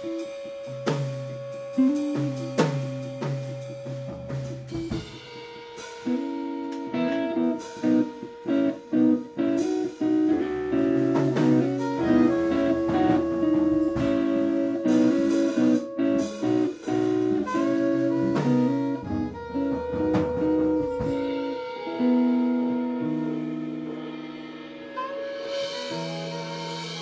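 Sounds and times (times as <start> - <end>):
guitar choppy phrases: 0.0 - 27.0
jazz band playing: 0.0 - 27.0.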